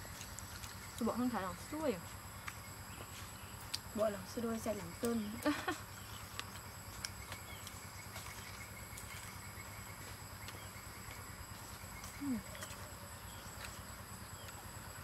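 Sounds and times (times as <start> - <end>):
chewing crispy food: 0.0 - 15.0.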